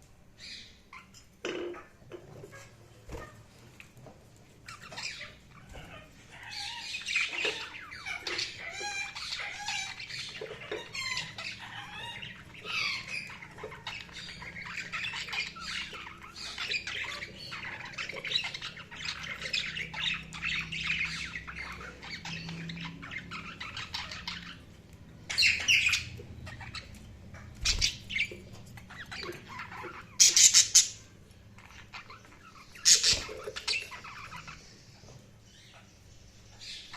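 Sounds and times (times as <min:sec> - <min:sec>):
budgerigars chattering and chirping: 0:04.6 - 0:36.9.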